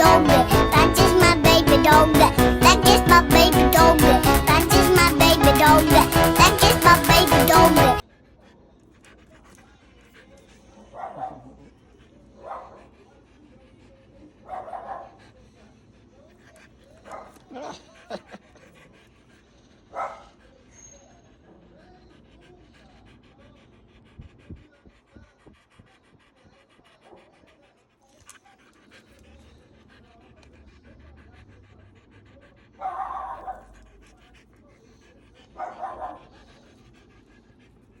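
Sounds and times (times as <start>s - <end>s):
dog panting rapidly: 0.0s - 38.0s
dog vocal outbursts: 0.0s - 38.0s.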